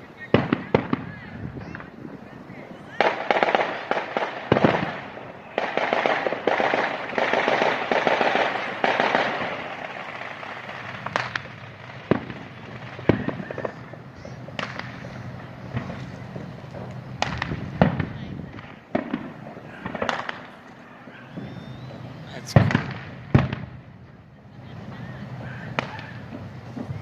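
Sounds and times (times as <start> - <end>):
firework bangs: 0.0 - 27.0
firework crackling: 0.0 - 27.0.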